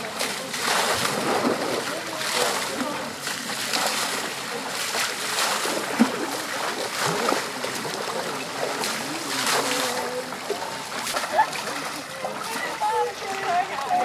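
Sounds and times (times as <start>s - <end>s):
sharp water smack: 0.0s - 12.6s
water splashing and sloshing: 0.0s - 14.0s.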